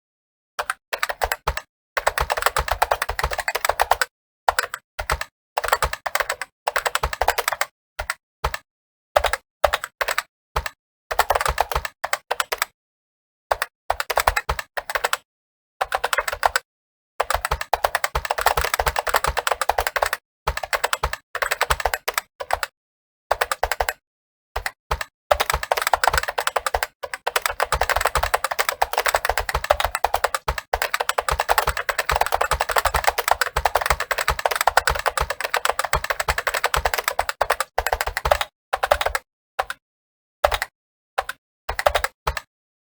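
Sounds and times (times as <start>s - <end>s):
keyboard typing: 0.6s - 8.6s, 9.2s - 12.7s, 13.5s - 16.6s, 17.2s - 22.7s, 23.3s - 24.0s, 24.6s - 39.8s, 40.4s - 42.5s.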